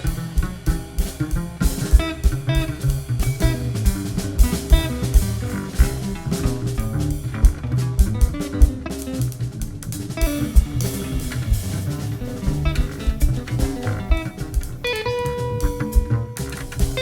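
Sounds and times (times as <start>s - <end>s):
bass: 0.0s - 17.0s
drum kit: 0.0s - 17.0s
jazz guitar: 0.0s - 17.0s.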